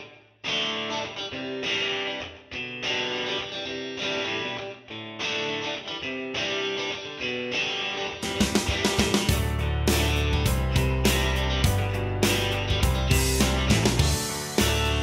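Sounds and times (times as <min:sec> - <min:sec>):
strummed guitar chords: 0:00.0 - 0:15.0.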